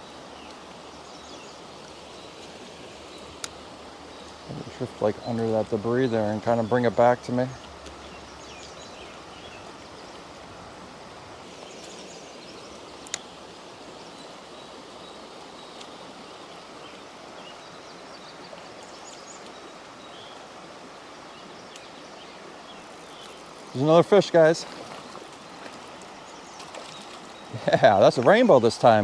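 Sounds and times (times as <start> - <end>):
creek water over rocks: 0.0 - 29.0.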